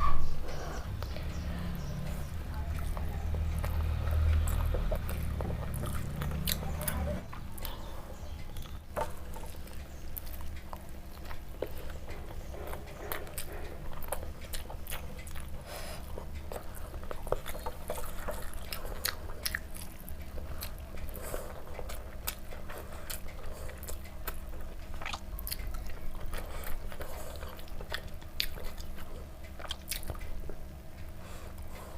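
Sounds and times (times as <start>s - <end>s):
low hum: 0.0s - 31.9s
person chewing: 1.9s - 31.9s.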